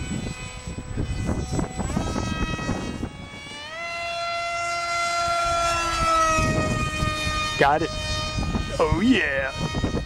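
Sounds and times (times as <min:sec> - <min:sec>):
electric motor and propeller whining: 0:00.0 - 0:10.0
wind buffeting microphone: 0:00.0 - 0:10.0.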